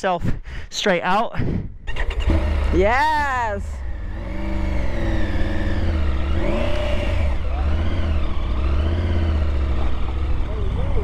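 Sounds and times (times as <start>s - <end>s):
motorcycle engine revving: 1.8s - 11.0s.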